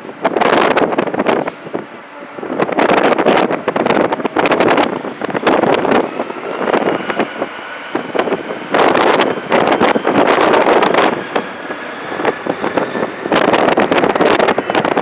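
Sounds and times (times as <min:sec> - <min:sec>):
faint jet engine whine: 0:00.0 - 0:15.0
wind buffeting microphone: 0:00.0 - 0:15.0.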